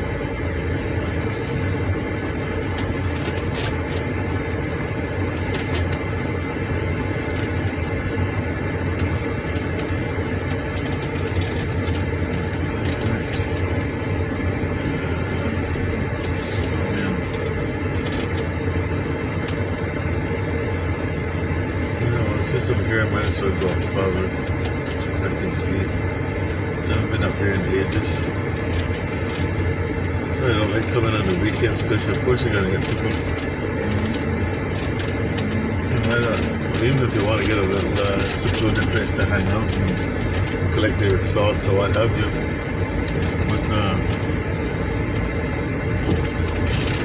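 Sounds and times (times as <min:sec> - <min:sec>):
car engine and tyre hum: 0:00.0 - 0:47.0.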